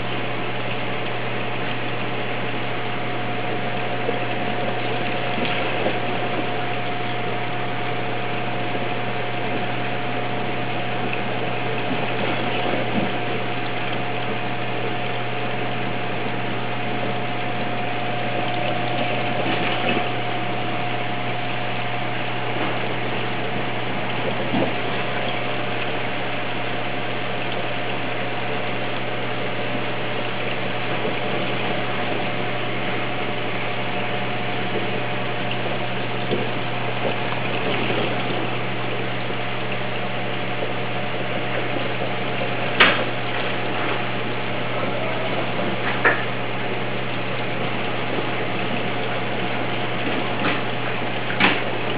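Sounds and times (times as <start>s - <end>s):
aquarium water circulation hiss: 0.0s - 51.9s
faint steady whine: 0.0s - 51.9s
low hum: 0.0s - 51.9s.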